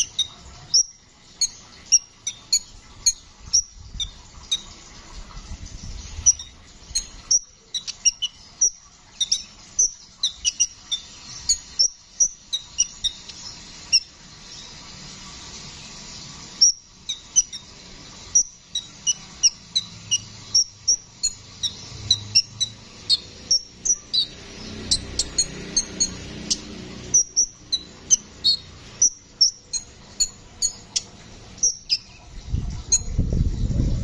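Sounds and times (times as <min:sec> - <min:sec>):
sunbird chirping: 0:00.0 - 0:33.8.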